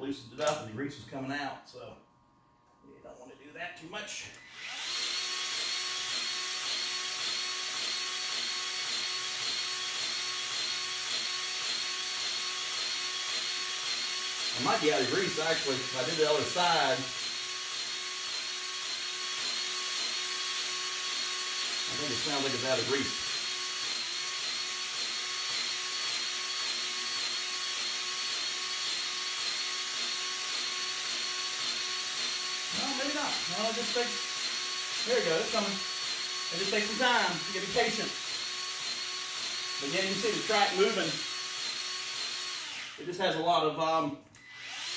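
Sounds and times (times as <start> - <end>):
grease gun motor whining: 4.3 - 43.2, 44.4 - 44.9.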